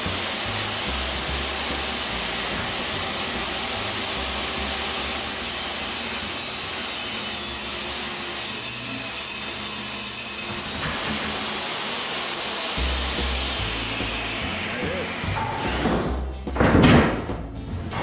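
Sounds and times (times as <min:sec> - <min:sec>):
shop vacuum running: 0:00.0 - 0:16.2
table saw cutting wood: 0:00.0 - 0:16.3.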